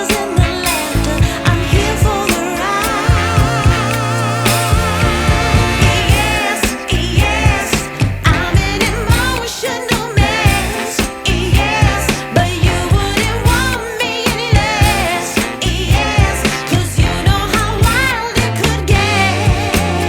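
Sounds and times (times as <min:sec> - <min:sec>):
pop music with heavy bass: 0:00.0 - 0:20.0.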